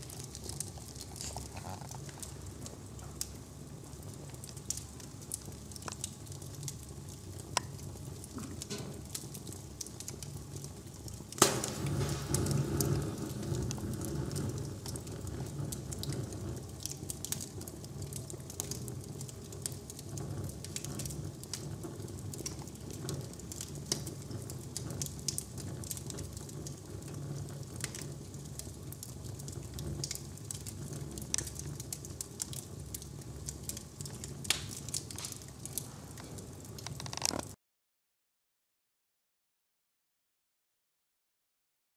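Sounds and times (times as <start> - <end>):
fire popping: 0.0 - 37.6
loud crack of fire: 0.0 - 37.6
wood fire crackling: 0.0 - 37.6.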